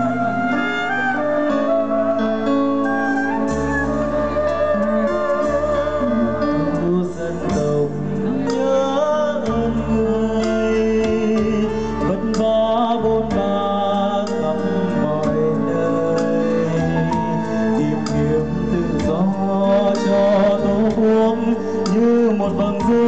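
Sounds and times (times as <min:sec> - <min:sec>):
bass guitar: 0:00.0 - 0:23.0
man singing with vibrato: 0:00.0 - 0:23.0.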